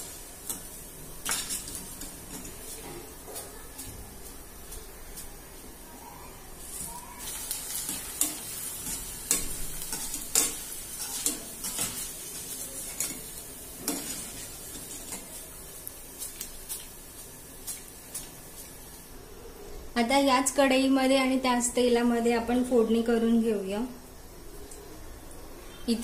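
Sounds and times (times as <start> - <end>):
food deep-frying in hot oil: 0.0 - 26.0.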